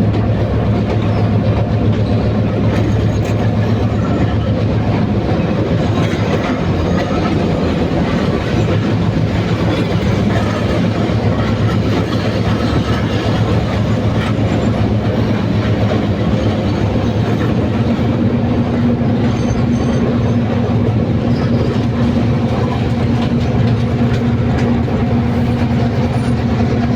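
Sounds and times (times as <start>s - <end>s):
train wheels clattering on track: 0.0s - 26.9s.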